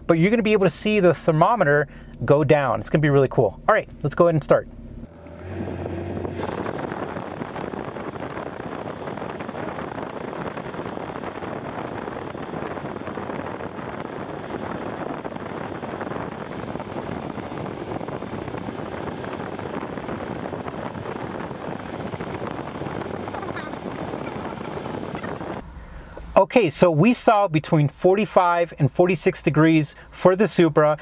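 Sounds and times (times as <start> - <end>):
car blower fan rushing air: 0.0 - 31.0.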